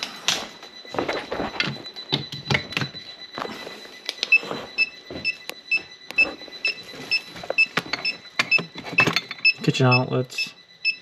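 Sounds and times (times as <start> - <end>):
electrical tester beeping: 0.0 - 11.0.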